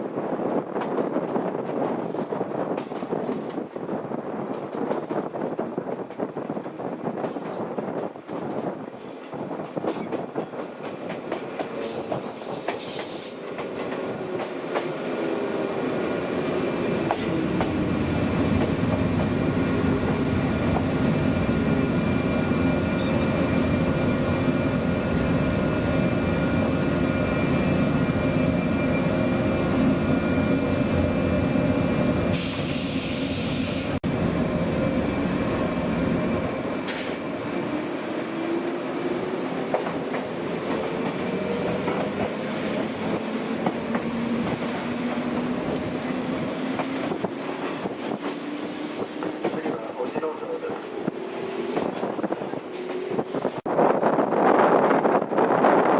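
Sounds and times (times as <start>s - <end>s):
electric train on rails: 0.0s - 55.9s.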